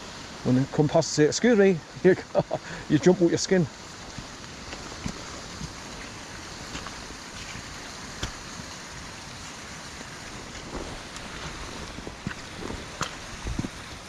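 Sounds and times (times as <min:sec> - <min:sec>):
heavy rain: 0:00.0 - 0:14.0
river rushing: 0:00.0 - 0:14.0.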